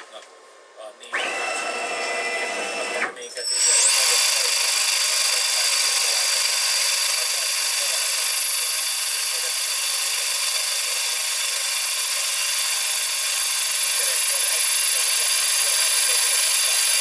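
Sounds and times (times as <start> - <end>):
machine spindle high-pitched whine: 1.0 - 17.0.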